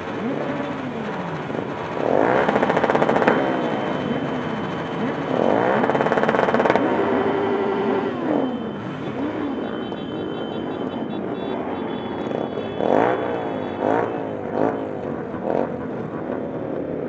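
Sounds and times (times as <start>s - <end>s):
motorcycle engine hard rev: 0.0s - 10.2s, 12.3s - 16.2s
motorcycles idling: 0.0s - 17.0s.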